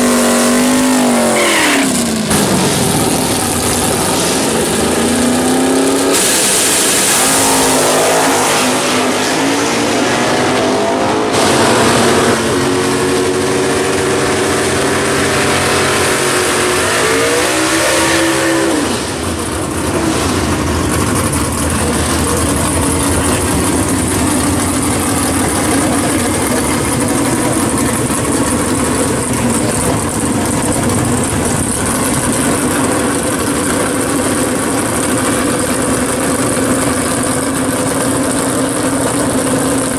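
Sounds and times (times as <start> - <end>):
race car accelerating with gear changes: 0.0 - 39.9
race engine running loudly: 0.0 - 39.9.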